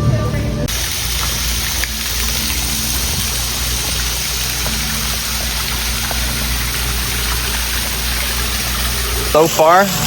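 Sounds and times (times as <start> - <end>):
water rushing from waterfalls: 0.7 - 10.0.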